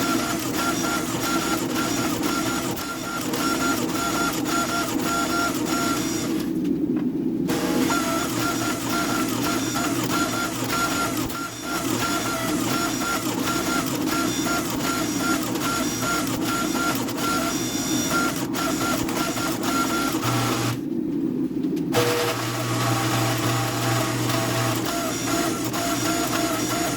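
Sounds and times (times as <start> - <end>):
workshop machine humming: 0.0 - 6.5, 7.5 - 20.8, 21.9 - 26.9.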